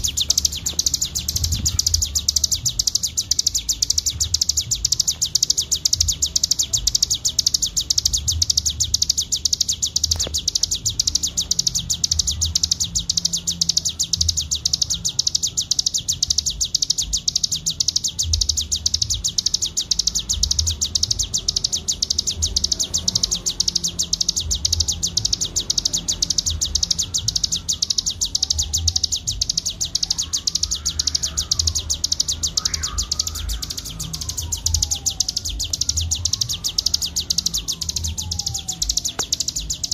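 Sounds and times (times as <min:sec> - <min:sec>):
songbird rapid high trill: 0:00.0 - 0:39.9.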